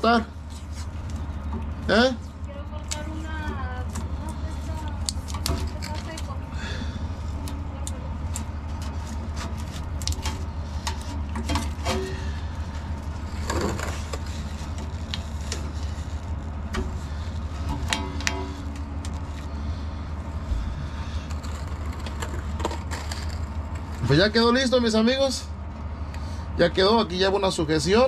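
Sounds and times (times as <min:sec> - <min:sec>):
steady low rumble: 0:00.0 - 0:28.0
tape crackling and rustling: 0:00.4 - 0:06.5, 0:07.1 - 0:19.7, 0:20.3 - 0:24.1.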